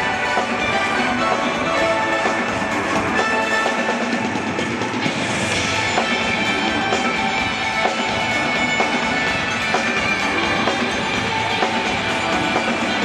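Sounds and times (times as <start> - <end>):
loud music with drums: 0.0 - 13.0.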